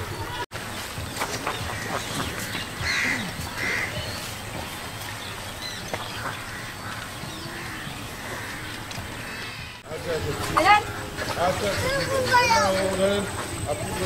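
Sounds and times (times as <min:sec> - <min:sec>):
harsh bird calls: 0:00.0 - 0:14.0.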